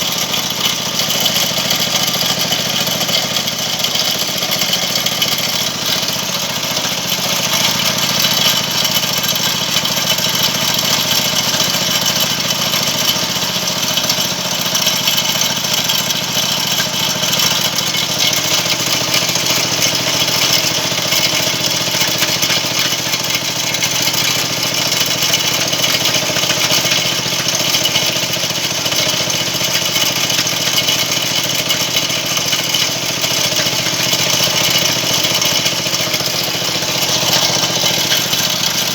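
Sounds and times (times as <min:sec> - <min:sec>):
winch motor running: 0:00.0 - 0:38.9.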